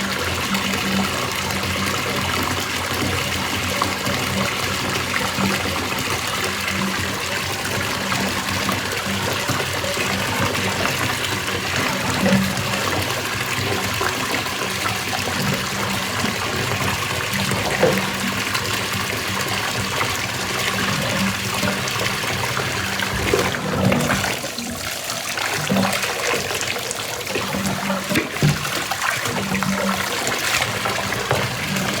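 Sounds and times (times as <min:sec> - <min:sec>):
tap water running and splashing: 0:00.0 - 0:32.0.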